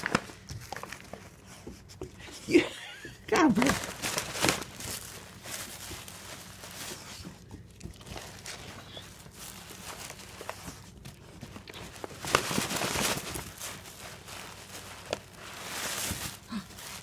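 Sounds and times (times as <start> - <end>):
paper bag and tissue rustling: 0.0 - 1.5, 3.3 - 17.0.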